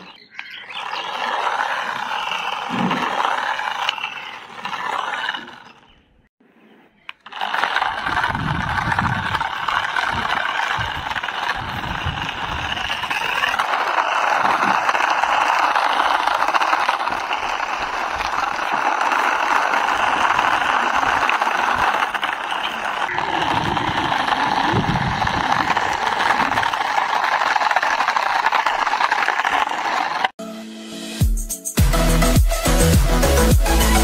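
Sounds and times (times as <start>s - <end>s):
plastic wheels rolling on concrete: 0.0s - 6.1s, 7.1s - 30.4s
toy car motor whirring: 0.3s - 6.0s, 7.1s - 30.4s.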